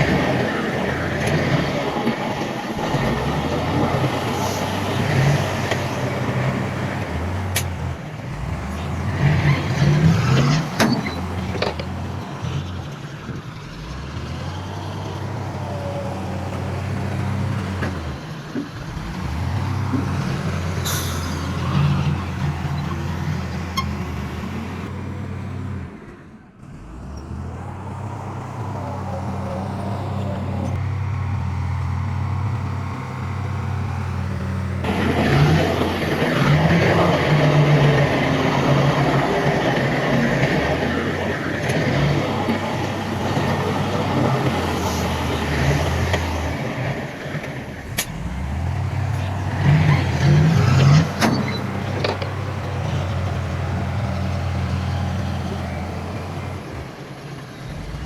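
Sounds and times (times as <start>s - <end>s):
heavy diesel engines working: 0.0s - 58.0s.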